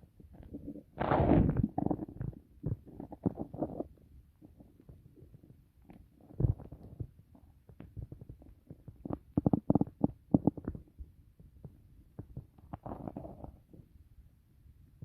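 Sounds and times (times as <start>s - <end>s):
stomach gurgling: 0.0s - 13.9s.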